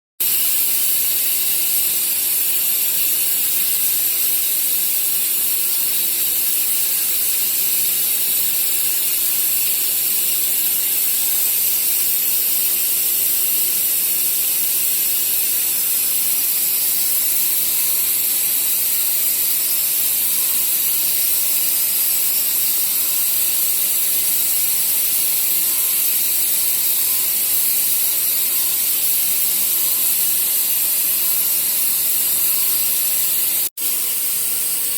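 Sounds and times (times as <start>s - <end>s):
router machine hissing and humming: 0.2s - 34.9s.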